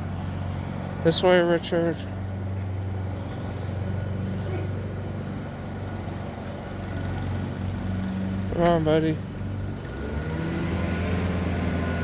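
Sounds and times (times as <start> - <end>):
lawnmower running: 0.0 - 12.0
leaf blowers droning: 0.0 - 12.0.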